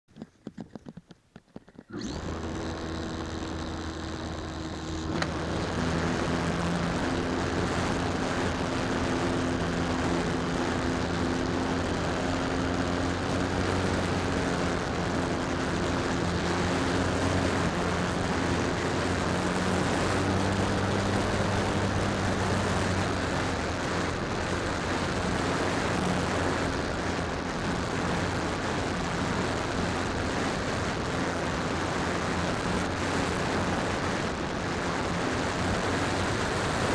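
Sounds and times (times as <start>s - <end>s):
electric motor whine: 1.9s - 36.9s.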